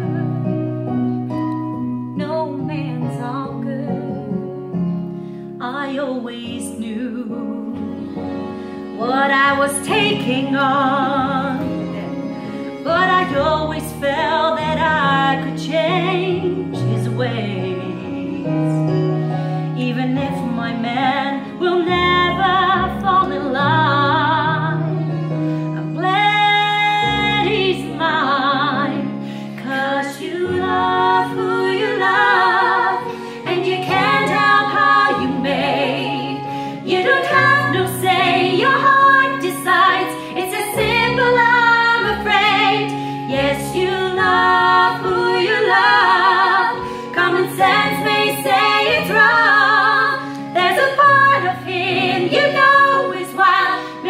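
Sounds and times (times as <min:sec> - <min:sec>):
piano accompaniment: 0:00.0 - 0:54.0
two women singing a duet: 0:02.2 - 0:04.3, 0:05.6 - 0:08.2, 0:08.9 - 0:18.9, 0:19.8 - 0:24.9, 0:25.8 - 0:54.0.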